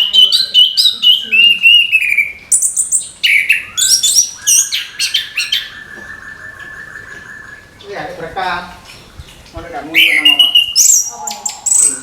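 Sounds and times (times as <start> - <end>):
bird chirping song: 0.0 - 12.0.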